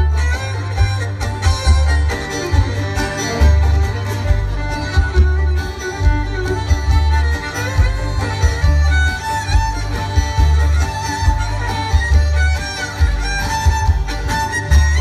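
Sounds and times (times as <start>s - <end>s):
bluegrass band playing: 0.0s - 15.0s
fiddle melody: 0.0s - 15.0s
upright bass notes: 0.0s - 15.0s.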